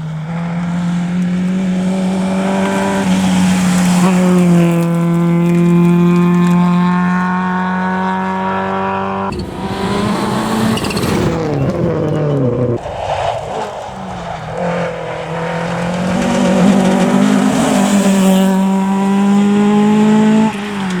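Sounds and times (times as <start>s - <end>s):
rally car engines at high revs: 0.0s - 21.0s.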